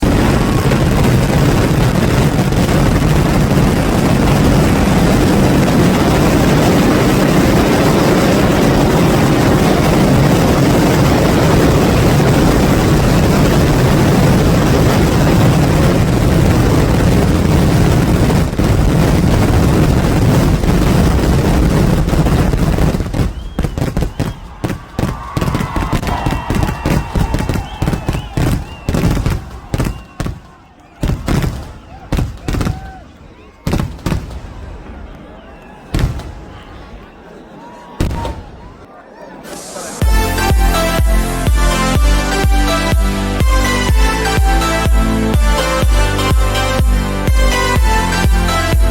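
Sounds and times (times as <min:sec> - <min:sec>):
firecracker explosions: 0:00.0 - 0:35.2, 0:35.9 - 0:37.0, 0:38.0 - 0:48.9.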